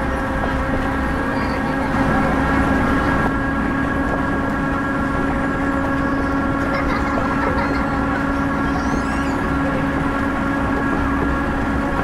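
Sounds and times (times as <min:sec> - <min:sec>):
droning hum: 0:00.0 - 0:12.0
train rumbling on track: 0:00.0 - 0:12.0.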